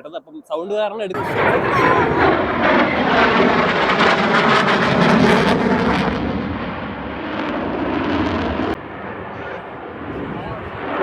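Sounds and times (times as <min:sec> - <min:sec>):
jet roar passing overhead: 0:01.2 - 0:11.0.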